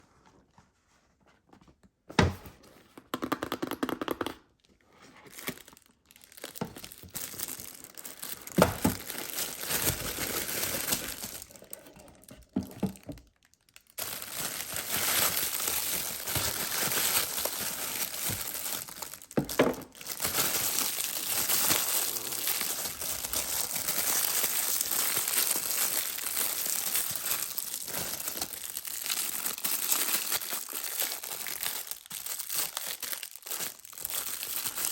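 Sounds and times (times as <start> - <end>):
packaging crinkling and tearing: 5.1 - 34.9.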